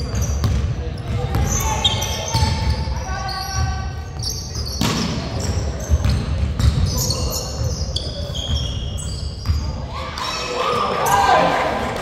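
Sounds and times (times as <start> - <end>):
sneaker squeaks: 0.0 - 11.3.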